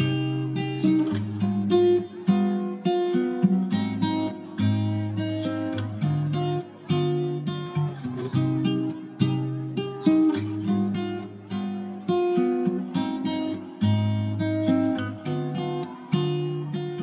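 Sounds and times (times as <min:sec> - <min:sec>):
guitar strummed and picked: 0:00.0 - 0:17.0.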